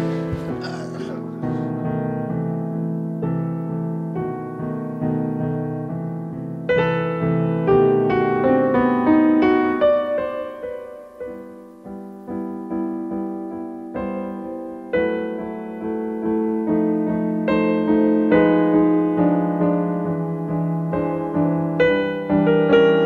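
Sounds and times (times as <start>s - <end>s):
solo piano melody: 0.0s - 23.0s.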